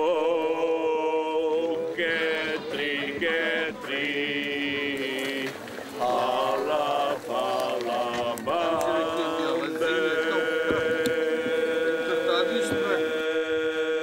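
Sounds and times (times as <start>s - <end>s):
chant-like singing: 0.0s - 14.0s.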